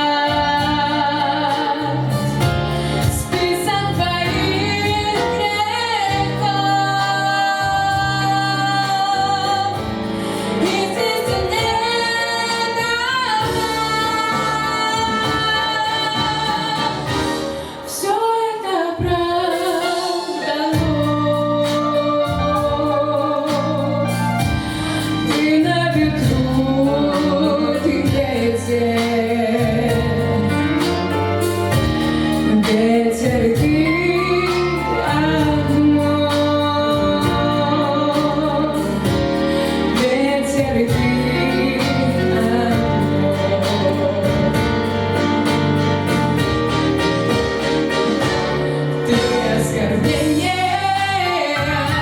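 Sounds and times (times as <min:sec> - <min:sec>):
instrumental backing with bass: 0:00.0 - 0:52.0
woman singing with vibrato: 0:00.0 - 0:52.0.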